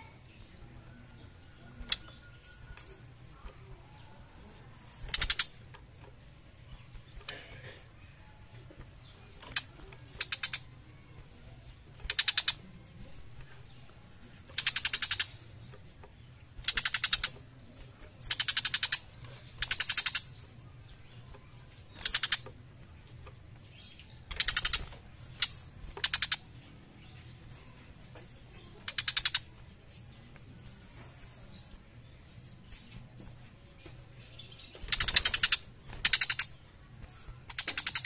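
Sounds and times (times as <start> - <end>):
bird harsh rattling chatter: 1.9 - 33.0, 34.1 - 38.0.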